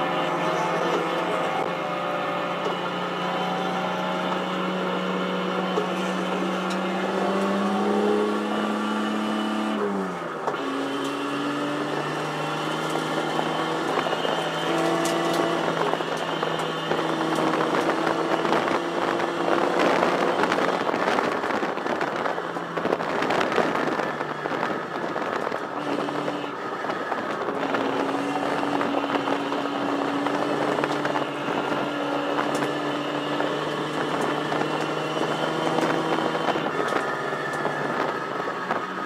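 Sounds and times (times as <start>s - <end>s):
race car engine at speed: 0.0s - 39.0s
road and wind noise: 0.0s - 39.0s.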